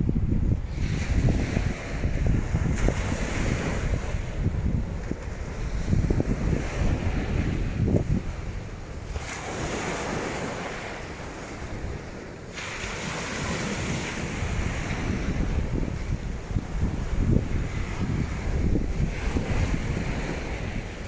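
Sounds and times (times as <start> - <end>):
waves washing on beach: 0.0 - 21.0
wind buffeting microphone: 0.0 - 21.0.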